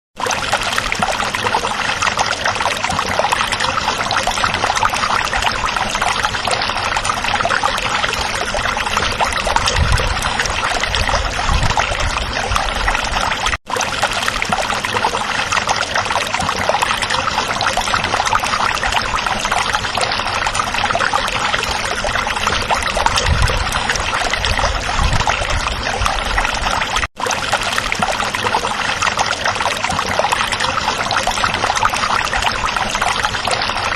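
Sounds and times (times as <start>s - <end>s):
stream babbling over rocks: 0.2s - 33.9s.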